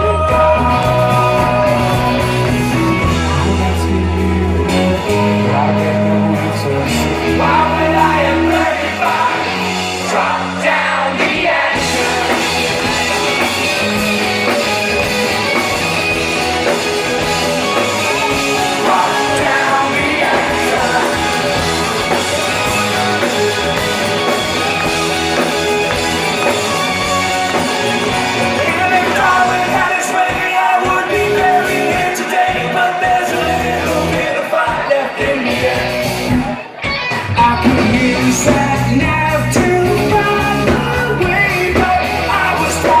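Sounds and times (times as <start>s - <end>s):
person singing: 0.0s - 14.7s, 15.4s - 43.0s
bass guitar: 0.0s - 43.0s
drums: 0.0s - 43.0s
electric guitars: 0.0s - 43.0s.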